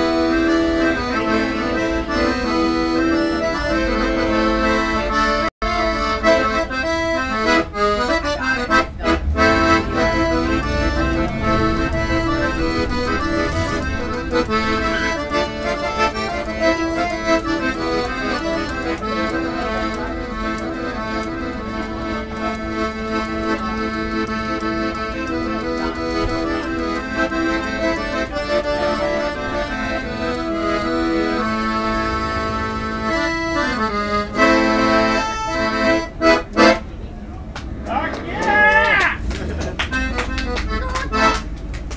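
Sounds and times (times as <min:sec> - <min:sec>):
accordion playing a tune: 0:00.0 - 0:41.9.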